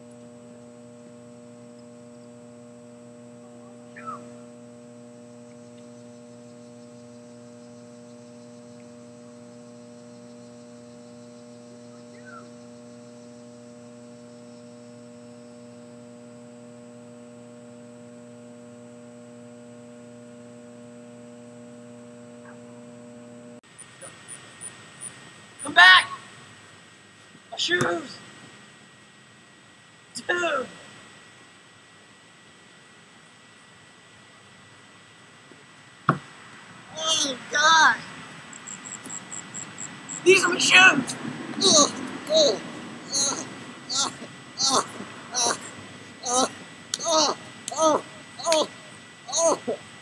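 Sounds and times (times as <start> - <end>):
electrical hum: 0.0 - 50.0.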